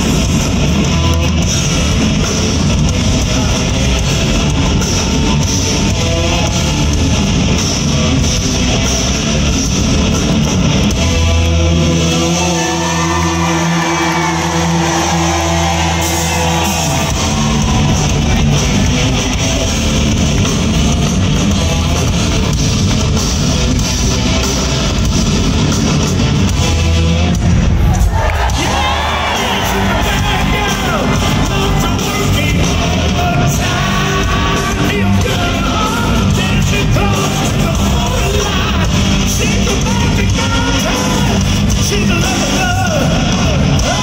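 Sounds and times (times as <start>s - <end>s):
hard rock band playing: 0.0s - 44.0s.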